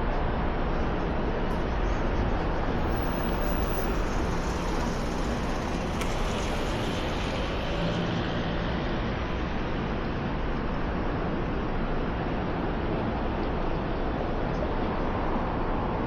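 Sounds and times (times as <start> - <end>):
low traffic rumble: 0.0 - 16.0
vehicles passing: 0.3 - 16.0.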